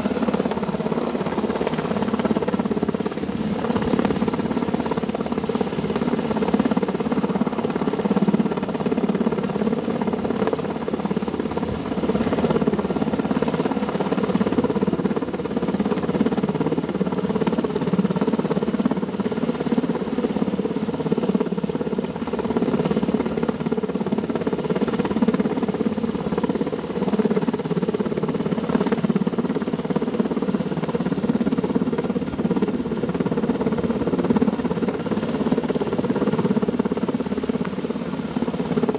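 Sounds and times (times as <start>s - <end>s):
helicopter rotor drone: 0.0s - 38.9s.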